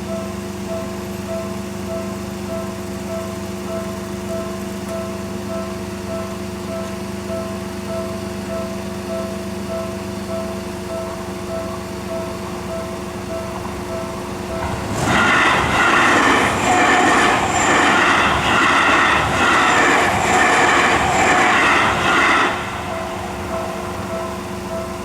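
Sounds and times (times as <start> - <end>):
level crossing warning bell: 0.0 - 25.0
train wheels clattering on rail: 0.0 - 25.0.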